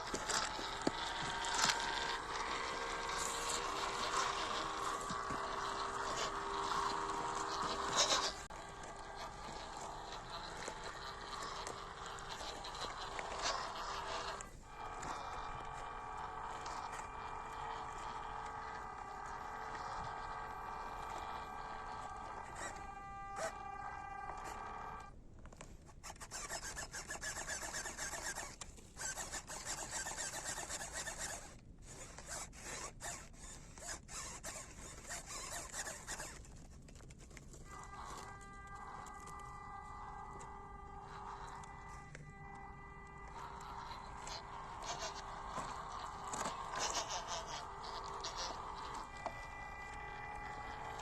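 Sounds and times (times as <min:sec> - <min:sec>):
small electric motor whining: 0:00.0 - 0:51.0.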